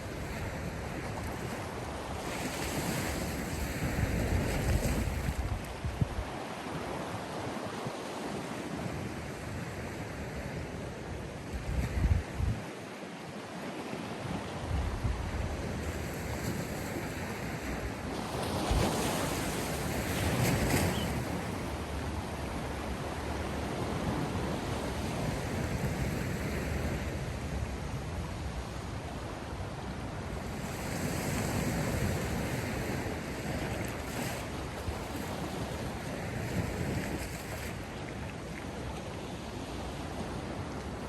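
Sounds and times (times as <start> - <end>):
sea waves washing onto shore: 0.0 - 41.0.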